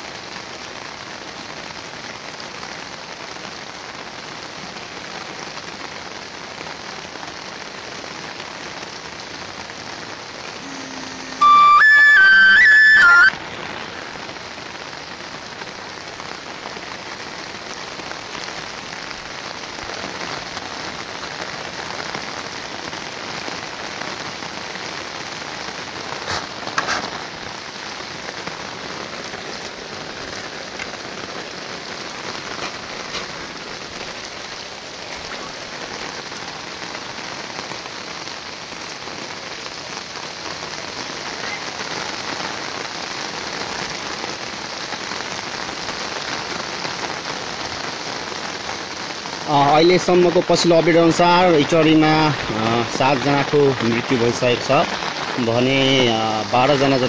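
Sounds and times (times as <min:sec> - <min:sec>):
rain on water and wet ground: 0:00.0 - 0:57.0.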